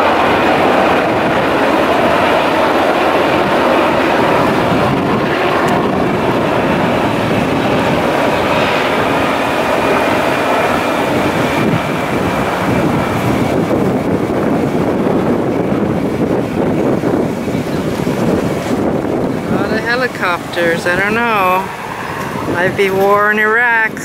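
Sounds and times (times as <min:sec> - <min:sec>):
helicopters flying over: 0:00.0 - 0:24.0.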